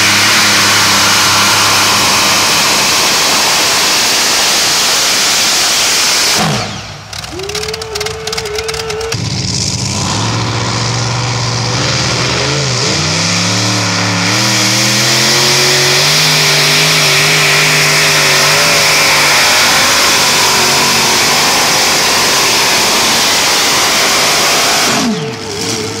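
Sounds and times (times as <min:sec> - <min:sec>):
engine pitch falling: 0:00.0 - 0:26.0
tractor engines revving: 0:00.0 - 0:26.0.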